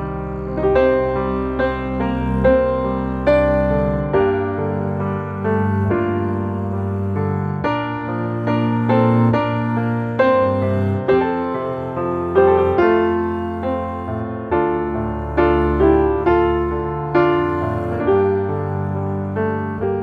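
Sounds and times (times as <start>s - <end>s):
soft slow solo piano: 0.0s - 20.0s.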